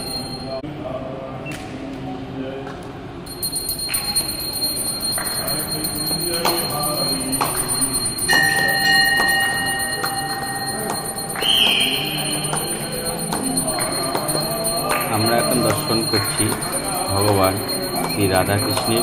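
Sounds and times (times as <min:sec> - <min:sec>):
temple bells ringing: 0:00.0 - 0:00.6, 0:03.3 - 0:19.0.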